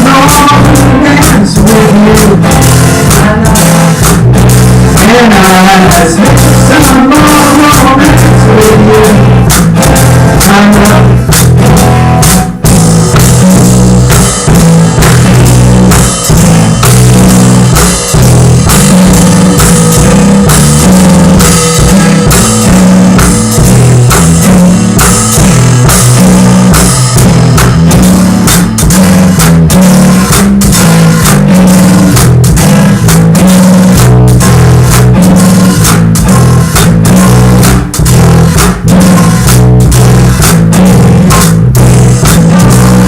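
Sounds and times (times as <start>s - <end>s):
loud distorted live band: 0.0s - 43.0s.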